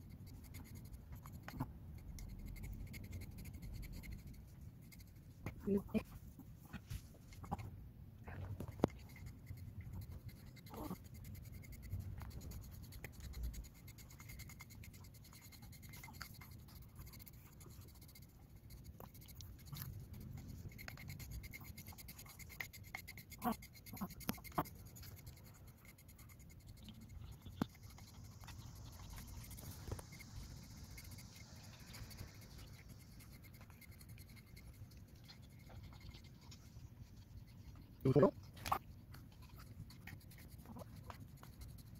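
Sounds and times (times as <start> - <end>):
metal comb scratching through fur: 0.0 - 7.6, 8.4 - 41.9.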